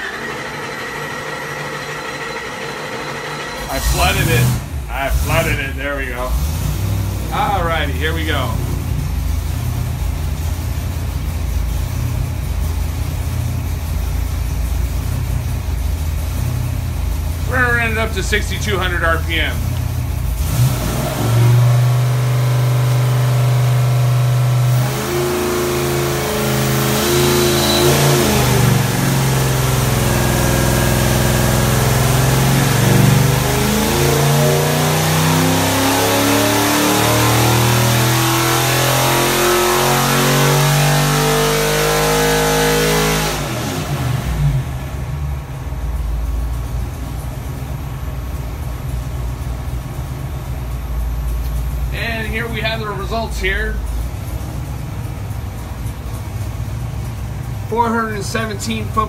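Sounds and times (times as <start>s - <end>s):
engine revving on a dynamometer: 0.0s - 47.8s.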